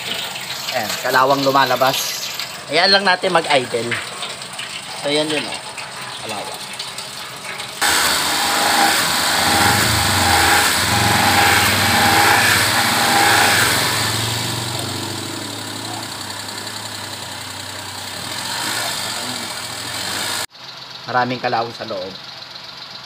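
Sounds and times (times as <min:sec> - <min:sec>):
water hissing: 0:00.0 - 0:06.9, 0:07.7 - 0:20.5
car engine idling: 0:00.0 - 0:23.0.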